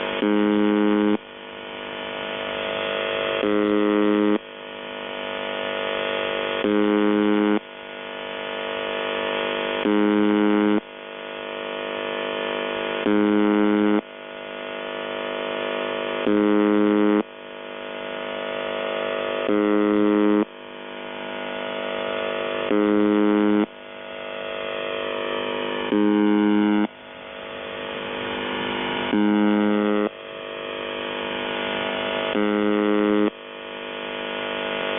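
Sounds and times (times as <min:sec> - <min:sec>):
radio hiss: 0:00.0 - 0:10.9, 0:12.5 - 0:17.3, 0:17.9 - 0:34.9
harsh radio buzz: 0:00.0 - 0:34.9.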